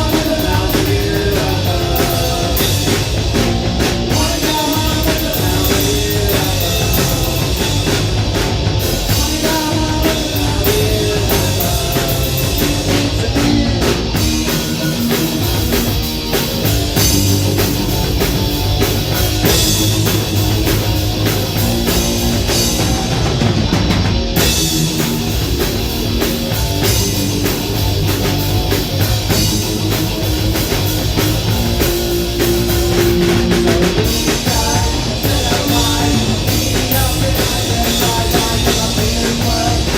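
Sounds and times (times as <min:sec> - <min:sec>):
bass guitar: 0:00.0 - 0:39.9
distorted electric guitars: 0:00.0 - 0:39.9
drum kit beat: 0:00.0 - 0:39.9.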